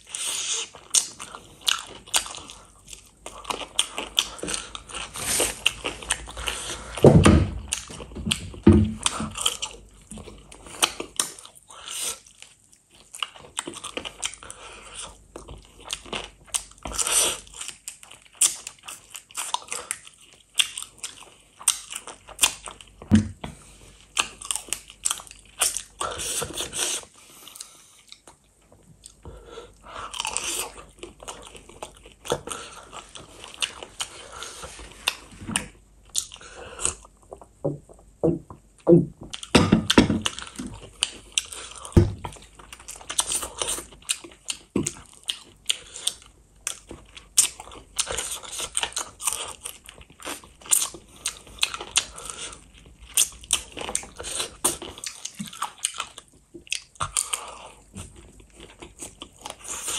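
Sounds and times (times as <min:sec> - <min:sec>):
chewing and biting mouth noises: 0:00.0 - 0:59.9.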